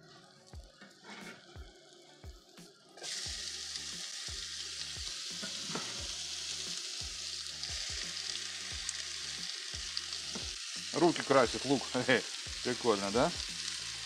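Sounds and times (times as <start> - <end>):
onion sizzling in hot oil: 0.2 - 14.0.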